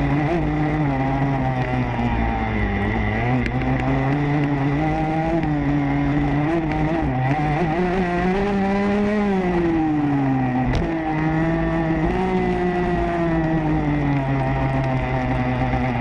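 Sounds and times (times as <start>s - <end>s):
motocross bike engine: 0.0s - 16.0s.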